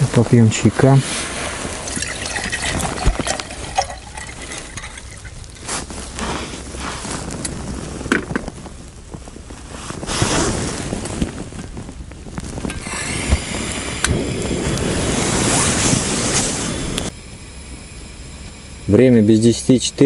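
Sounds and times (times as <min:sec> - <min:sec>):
gas burner hissing: 0:00.0 - 0:20.0.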